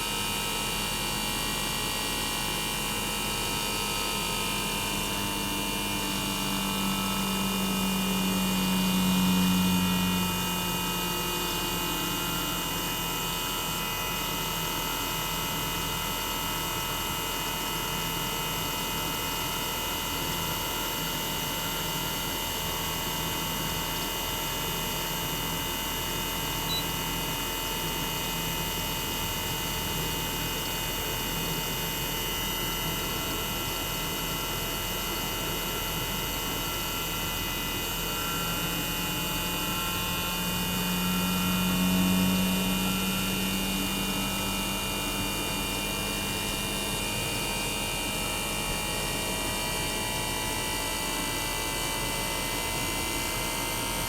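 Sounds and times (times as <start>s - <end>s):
compressor hum: 0.0s - 54.0s
high-pitched inverter whine: 0.0s - 54.0s.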